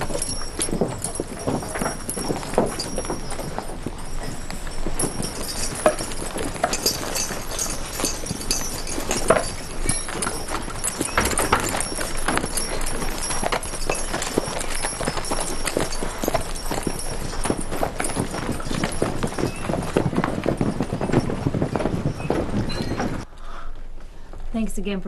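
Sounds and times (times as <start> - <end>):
hooves clip-clopping on dirt: 0.0 - 23.3.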